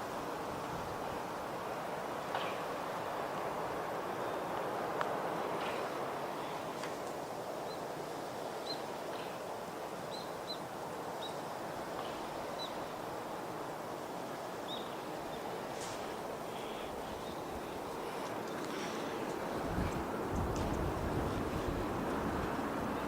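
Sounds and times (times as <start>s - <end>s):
outdoor background rush: 0.0s - 23.0s.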